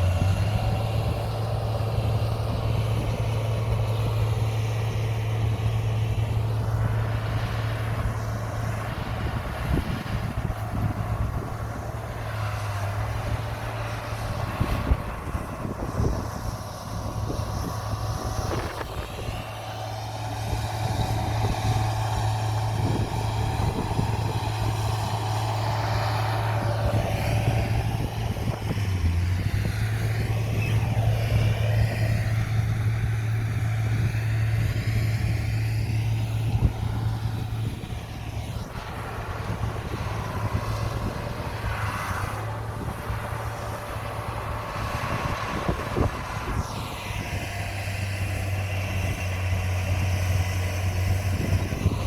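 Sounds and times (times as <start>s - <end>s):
bulldozer diesel engine: 0.0s - 52.0s.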